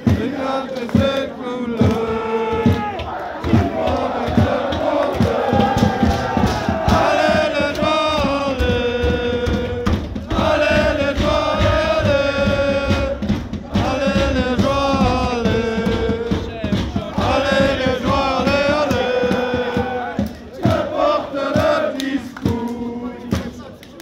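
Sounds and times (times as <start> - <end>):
crowd singing a chant: 0.0 - 24.0.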